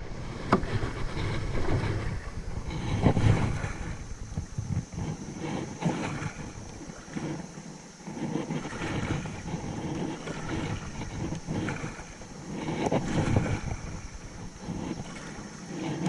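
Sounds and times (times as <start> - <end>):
creek water rushing: 0.0 - 16.0
wind buffeting microphone: 0.0 - 16.0.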